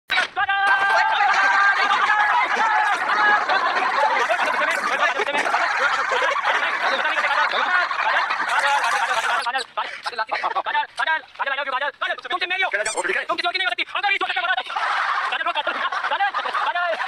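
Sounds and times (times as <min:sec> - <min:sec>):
high-pitched voices laughing and chattering: 0:00.8 - 0:11.1, 0:12.1 - 0:17.0.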